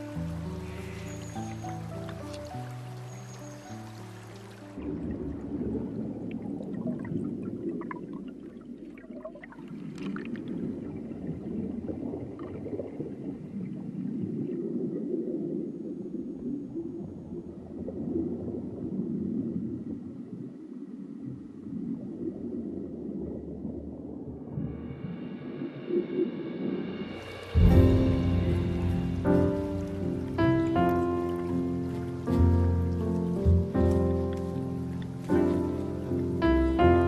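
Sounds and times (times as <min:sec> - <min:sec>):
underwater river rumble: 0:00.0 - 0:37.0.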